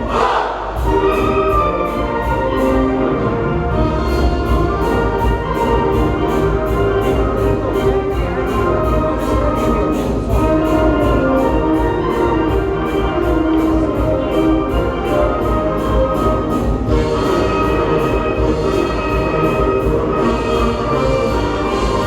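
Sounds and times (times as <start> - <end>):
orchestral music with heavy bass: 0.0 - 22.0.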